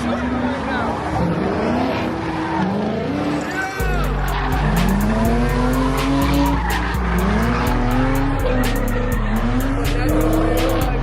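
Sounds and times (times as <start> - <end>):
car engine revving: 0.0 - 11.0
hip-hop music with deep bass: 0.0 - 11.0
tyres squealing: 0.7 - 11.0.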